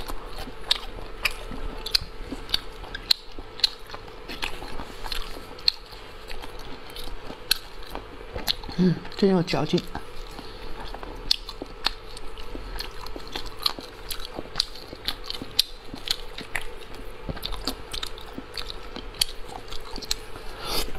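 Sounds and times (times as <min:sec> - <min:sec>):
chewing and lip-smacking: 0:00.0 - 0:20.9.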